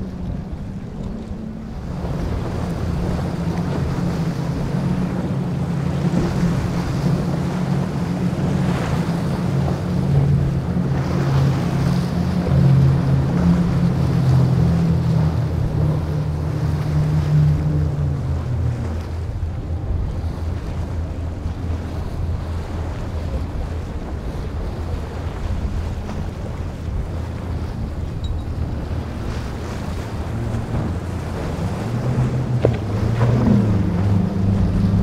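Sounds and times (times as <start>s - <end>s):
outboard engines humming: 0.0s - 35.0s
spray and breaking waves: 0.0s - 35.0s
wind buffeting microphone: 0.0s - 35.0s.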